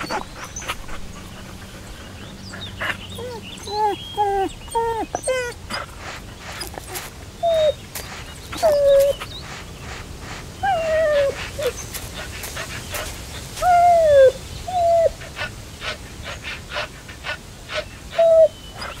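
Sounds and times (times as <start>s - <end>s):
dog whining: 0.0s - 9.6s, 10.6s - 12.4s, 13.0s - 15.5s, 17.7s - 19.0s
dog panting: 0.0s - 19.0s.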